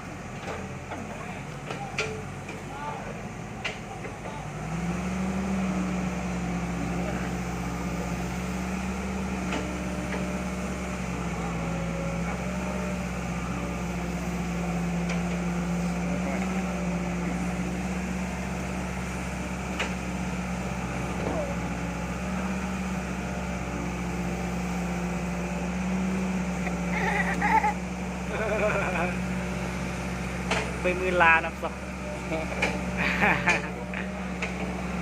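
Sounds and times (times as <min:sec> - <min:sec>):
motor humming: 0:00.9 - 0:35.0.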